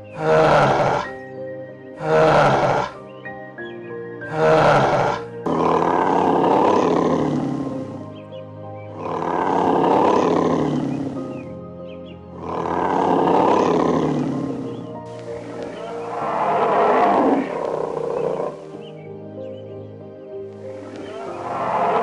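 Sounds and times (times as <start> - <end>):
animal calling: 0.0 - 1.2, 2.0 - 3.0, 4.2 - 8.3, 8.9 - 19.0, 20.6 - 22.0
soft piano music: 0.0 - 22.0.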